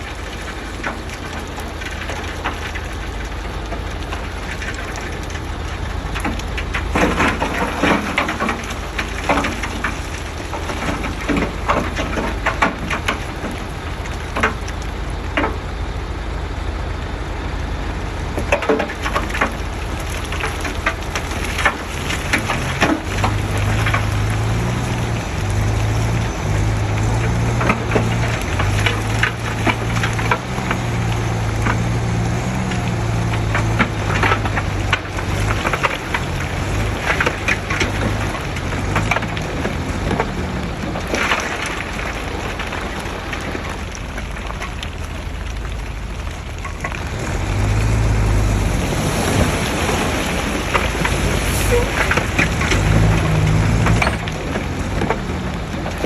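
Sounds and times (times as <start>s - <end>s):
diesel engine rumbling: 0.0s - 56.0s
soil and debris crunching: 0.0s - 56.0s
steady engine hum: 0.0s - 56.0s.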